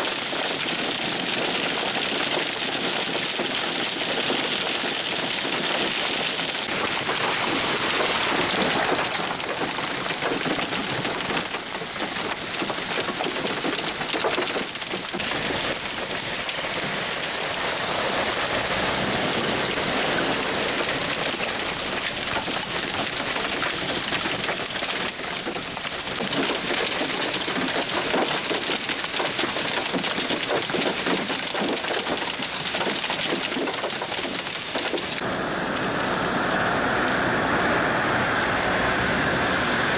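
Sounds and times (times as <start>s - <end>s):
hail rattling on ground: 0.0s - 35.2s.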